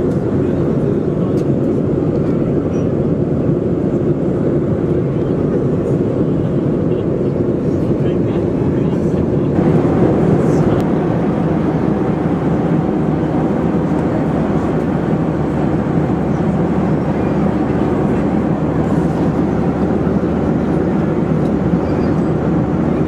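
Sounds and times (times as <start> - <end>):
air rushing along fuselage: 0.0 - 23.0
jet engine hum: 0.0 - 23.0.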